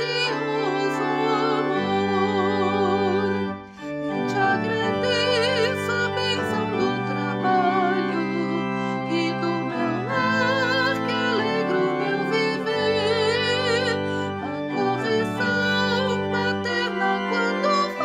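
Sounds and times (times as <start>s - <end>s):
organ chords: 0.0s - 18.0s
person singing a hymn: 0.0s - 18.0s.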